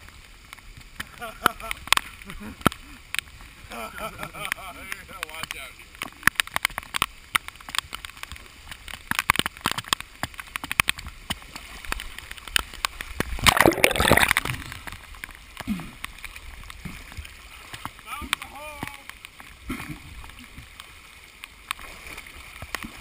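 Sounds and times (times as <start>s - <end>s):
floodwater splashing and sloshing: 0.0s - 23.0s
rush of water: 0.0s - 23.0s.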